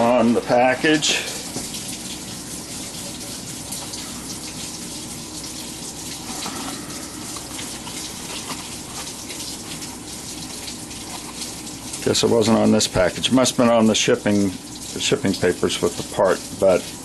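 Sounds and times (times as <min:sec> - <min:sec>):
water spraying into washing machine: 0:00.0 - 0:17.0.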